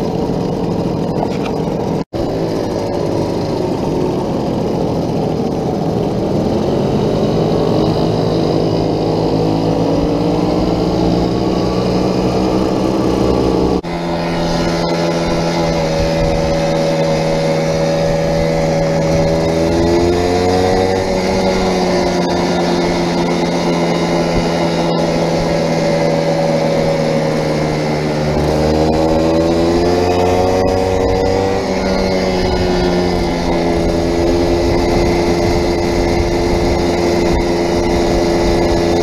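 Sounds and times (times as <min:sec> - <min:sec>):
moped engine running: 0:00.0 - 0:39.0.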